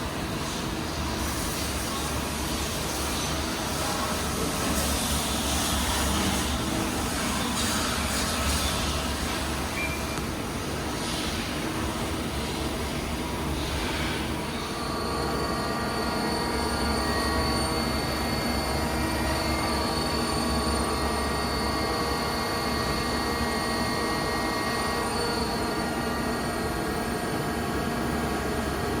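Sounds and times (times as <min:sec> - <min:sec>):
lathe spindle hum and whine: 0:00.0 - 0:29.0.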